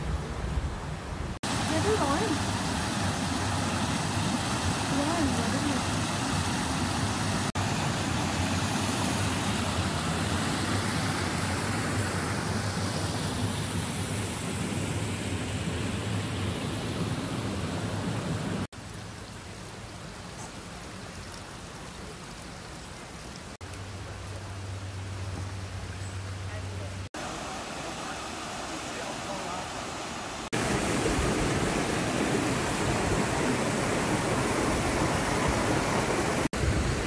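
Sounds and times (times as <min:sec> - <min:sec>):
soft water flow: 0:00.0 - 0:37.0
waterfall rushing: 0:01.4 - 0:25.9, 0:26.5 - 0:37.0.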